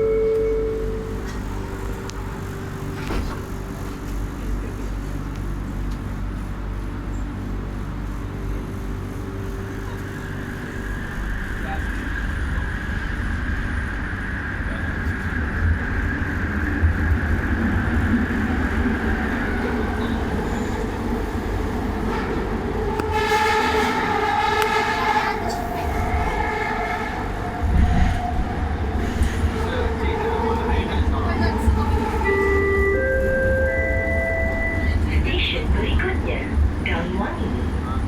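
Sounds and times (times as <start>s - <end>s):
train wheels rumbling on track: 0.0s - 38.0s
train whine: 0.0s - 38.0s.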